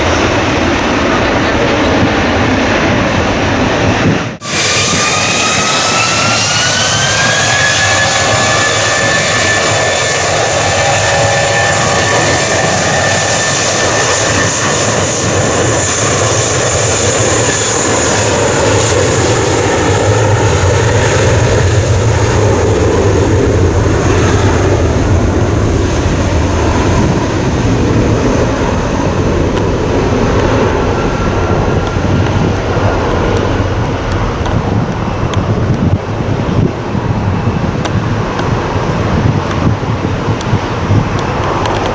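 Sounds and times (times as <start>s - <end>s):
jet engines roaring and whining: 0.0s - 41.9s.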